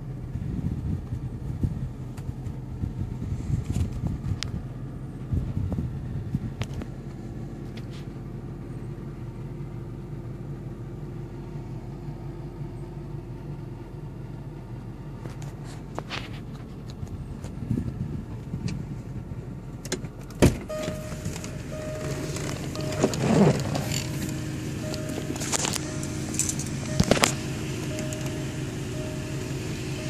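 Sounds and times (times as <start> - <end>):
car engine idling hum: 0.0 - 30.0.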